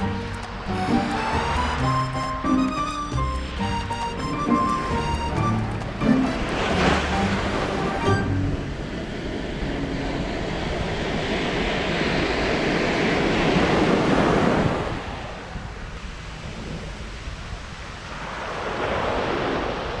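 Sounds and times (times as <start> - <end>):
surf washing up sand beach: 0.0 - 20.0
wind rumbling on microphone: 0.0 - 20.0.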